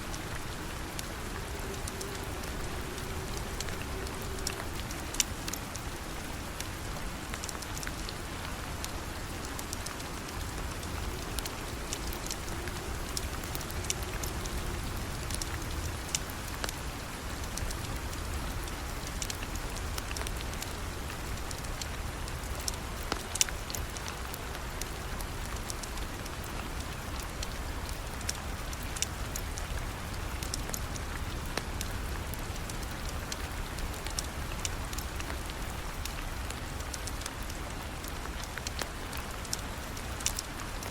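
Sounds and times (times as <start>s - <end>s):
steady rain: 0.0s - 40.9s
wood fire crackling: 0.0s - 40.9s.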